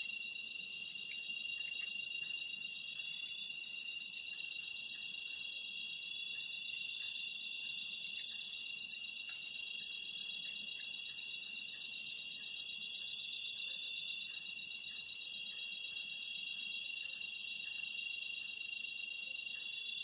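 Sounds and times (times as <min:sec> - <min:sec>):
night insects chorus: 0:00.0 - 0:20.0.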